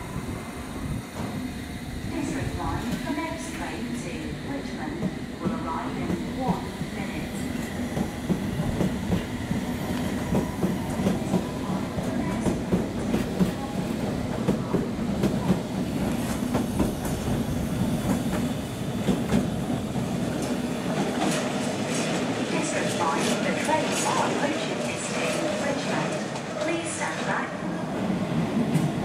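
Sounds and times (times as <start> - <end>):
train low hum: 0.0 - 29.0.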